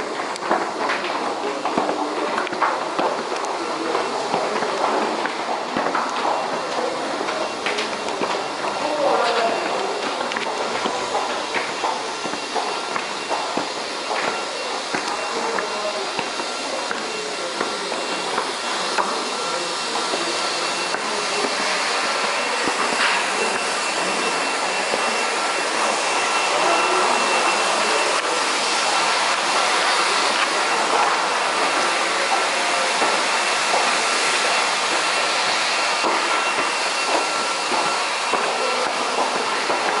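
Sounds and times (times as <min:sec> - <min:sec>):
footsteps on stone stairs: 0:00.0 - 0:40.0
subway station noise: 0:00.0 - 0:40.0.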